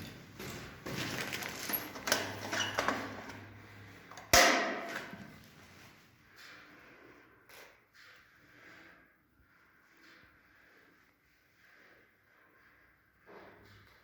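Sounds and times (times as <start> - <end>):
objects rustling and clattering: 0.0 - 14.0.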